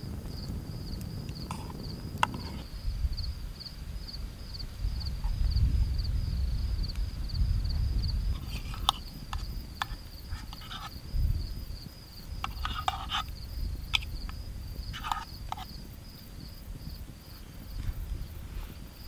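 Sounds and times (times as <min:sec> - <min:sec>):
campfire crackling: 0:00.0 - 0:19.0
insects trilling: 0:00.0 - 0:19.0.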